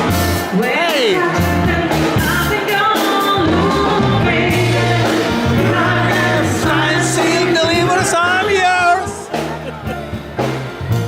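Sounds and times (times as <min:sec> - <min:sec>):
bass line: 0:00.0 - 0:02.8, 0:03.4 - 0:11.0
person singing: 0:00.5 - 0:10.1.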